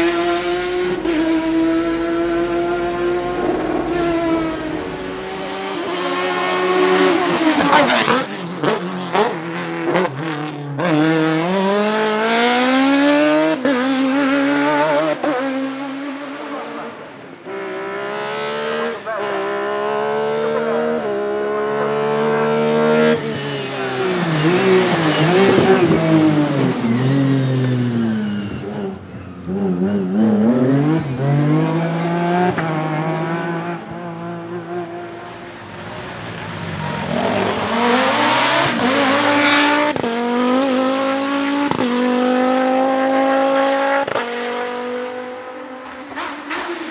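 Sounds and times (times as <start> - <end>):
race car engine revving: 0.0 - 14.1, 21.7 - 28.6, 29.5 - 46.9.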